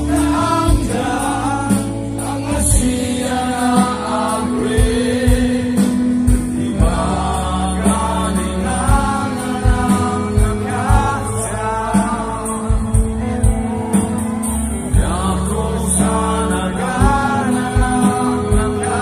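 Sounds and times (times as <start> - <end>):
live band through pa: 0.0 - 19.0.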